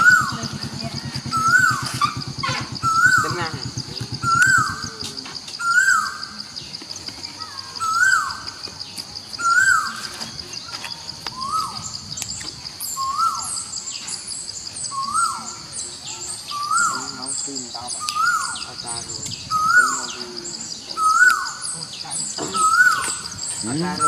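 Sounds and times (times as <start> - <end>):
faint high chirps: 0.0 - 24.0.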